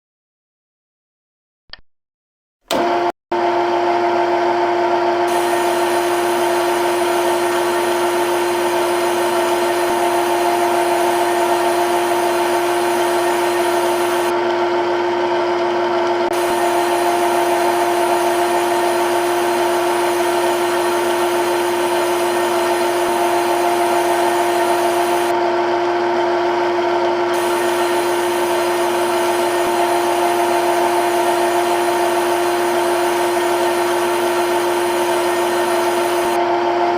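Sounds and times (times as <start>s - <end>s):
lathe spindle whine: 2.7s - 36.9s.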